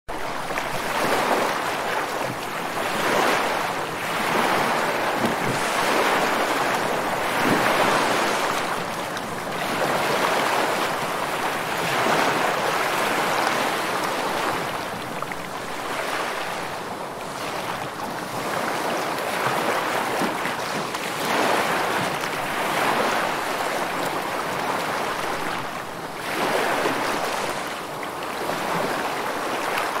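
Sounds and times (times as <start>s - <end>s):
ocean waves washing in: 0.1s - 30.0s.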